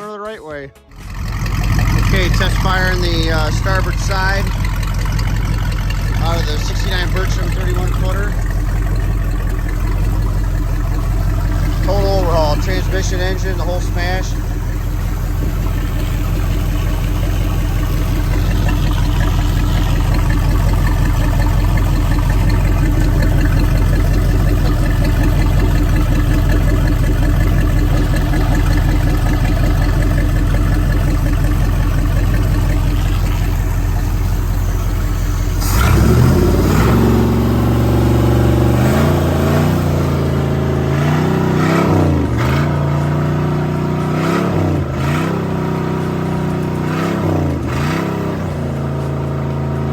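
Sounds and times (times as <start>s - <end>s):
boat engine idling and revving: 0.9s - 49.9s.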